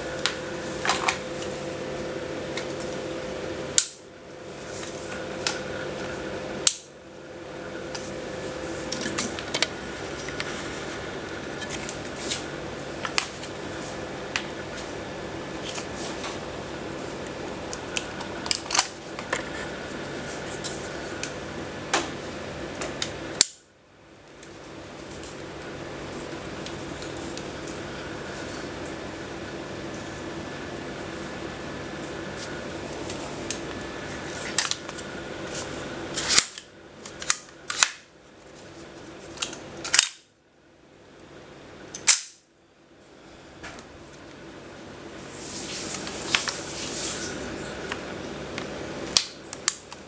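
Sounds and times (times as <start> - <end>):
background hum: 0.0 - 50.0.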